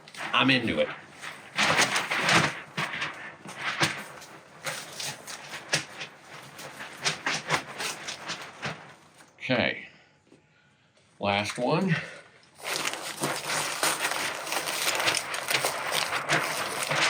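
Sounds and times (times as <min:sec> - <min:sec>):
fabric rustling and scraping: 0:00.0 - 0:09.3, 0:12.5 - 0:17.0.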